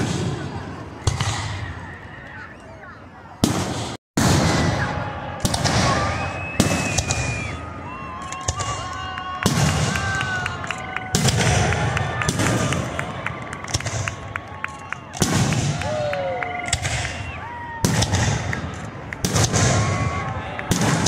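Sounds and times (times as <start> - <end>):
crackling of glitter fireworks: 0.0 - 21.0.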